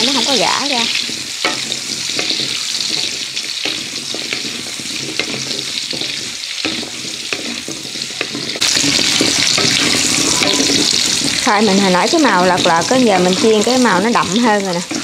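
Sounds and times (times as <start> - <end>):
food sizzling in oil: 0.0 - 15.0
wooden spatula scraping a pan: 0.0 - 15.0.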